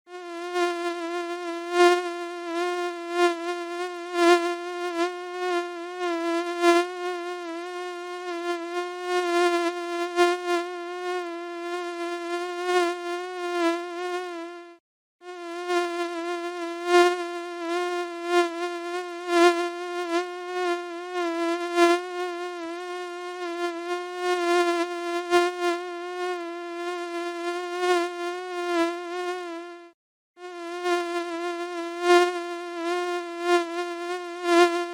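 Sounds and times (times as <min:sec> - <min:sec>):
mosquito buzzing: 0:00.1 - 0:34.9.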